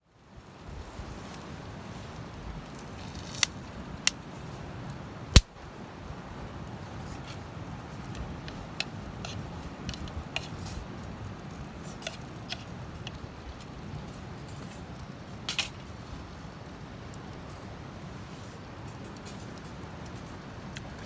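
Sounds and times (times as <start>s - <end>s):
campfire crackling: 0.2s - 21.0s.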